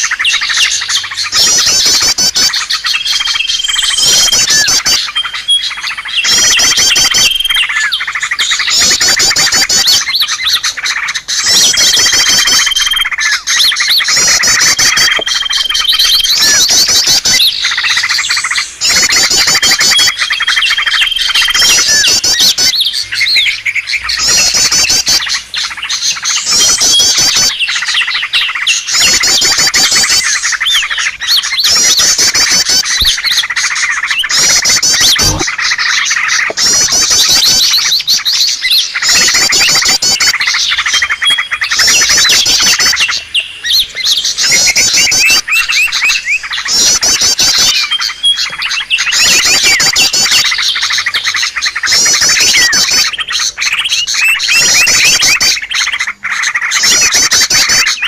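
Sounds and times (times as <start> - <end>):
small songbirds calling: 0.0 - 58.0.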